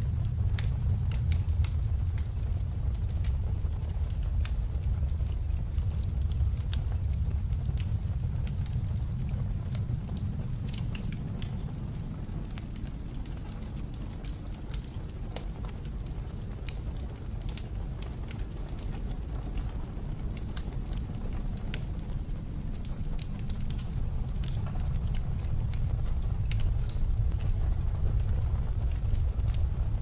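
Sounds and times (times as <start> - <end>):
blizzard wind rumbling: 0.0 - 30.0
wood fire crackling: 0.0 - 30.0.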